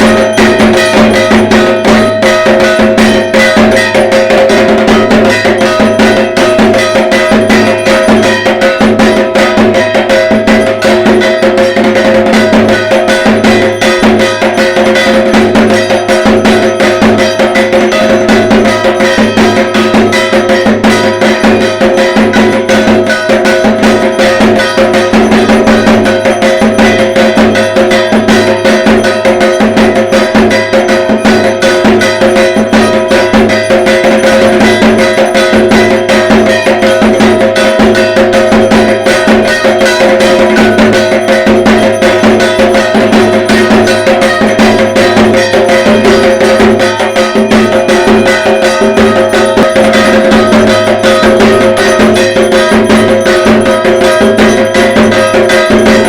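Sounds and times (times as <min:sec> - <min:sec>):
barrel drum beaten fast: 0:00.0 - 0:56.0
metallic ringing: 0:00.0 - 0:56.0.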